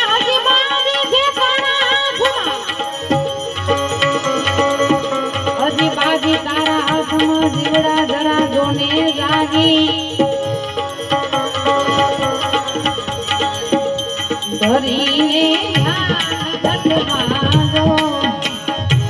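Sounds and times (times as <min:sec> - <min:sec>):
jingling shaken percussion: 0:00.0 - 0:19.0.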